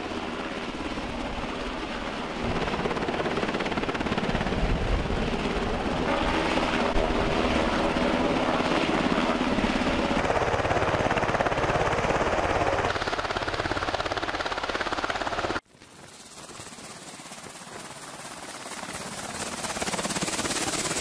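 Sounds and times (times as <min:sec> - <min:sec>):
helicopter hovering: 0:00.0 - 0:21.0.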